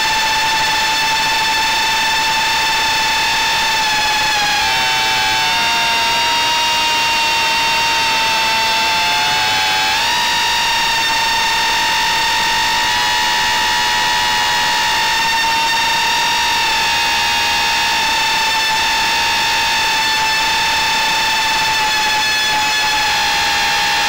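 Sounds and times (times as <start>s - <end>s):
high-pitched drone motor whine: 0.0s - 24.0s.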